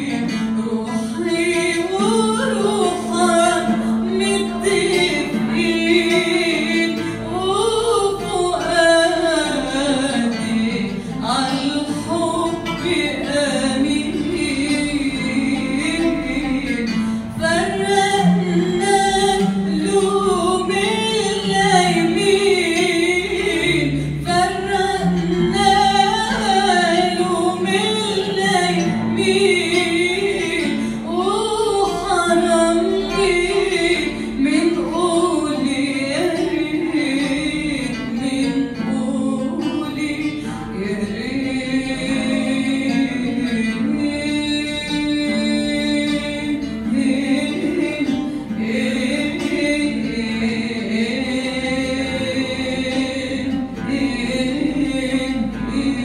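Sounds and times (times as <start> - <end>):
oud playing: 0.0 - 56.0
woman singing: 0.0 - 56.0.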